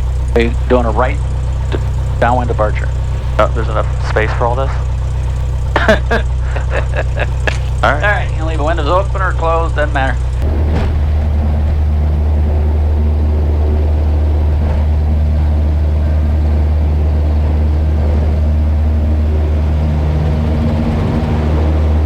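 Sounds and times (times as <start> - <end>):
propeller plane engine from cabin: 0.0 - 22.0.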